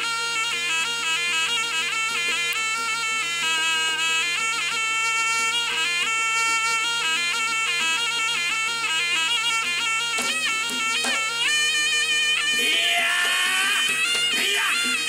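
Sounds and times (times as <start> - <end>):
shawm playing nasal melody: 0.0 - 15.0.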